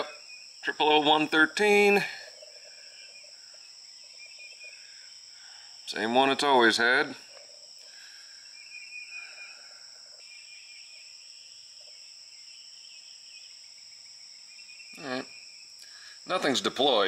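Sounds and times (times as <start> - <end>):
insects chirring: 0.0 - 17.0
lower insect chirps: 0.0 - 17.0.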